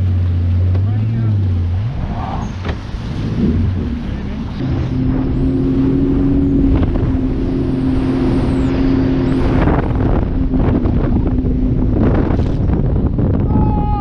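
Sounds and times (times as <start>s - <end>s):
water splashing: 0.0s - 13.0s
watercraft engine drone: 0.0s - 14.0s
wind buffeting microphone: 0.0s - 14.0s.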